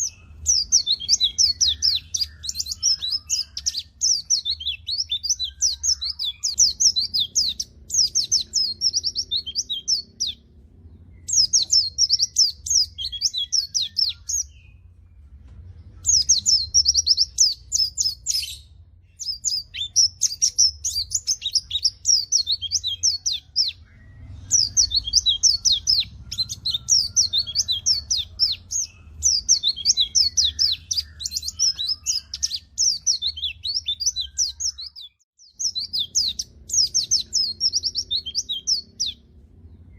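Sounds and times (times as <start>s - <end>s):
faint low hum: 0.0s - 34.3s, 35.5s - 39.9s
bird twittering song: 0.0s - 39.9s.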